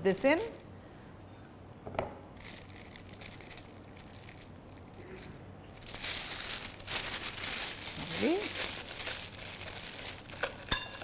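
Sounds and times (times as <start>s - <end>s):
plastic piping bag crinkling: 0.2s - 0.6s, 2.3s - 11.0s.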